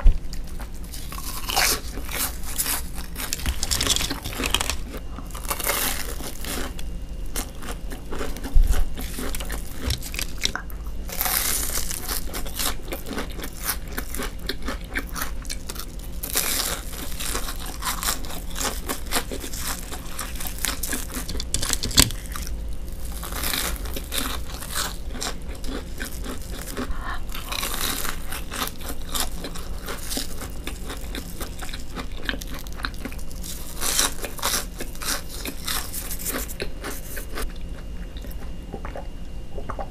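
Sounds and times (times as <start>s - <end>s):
chewing: 0.3s - 22.5s, 23.1s - 39.9s
crunchy food biting: 0.3s - 39.1s.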